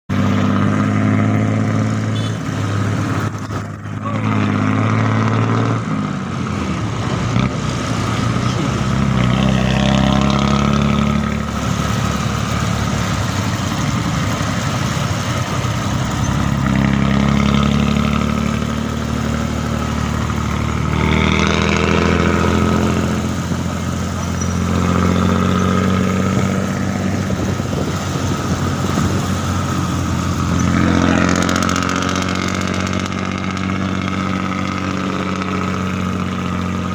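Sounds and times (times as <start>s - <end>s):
diesel bus engine revving: 0.1s - 36.9s.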